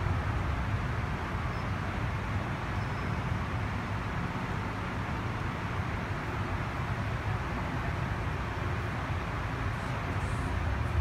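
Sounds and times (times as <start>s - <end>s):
low rumble with hiss: 0.0s - 11.0s.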